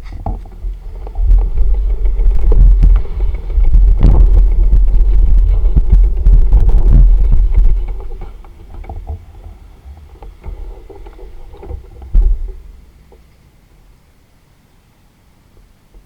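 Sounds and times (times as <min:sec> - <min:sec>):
wind buffeting microphone: 0:00.0 - 0:13.3.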